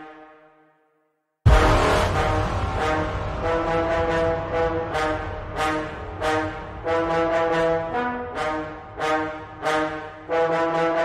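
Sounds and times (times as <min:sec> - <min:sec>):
accented brass chords: 0:01.5 - 0:11.0.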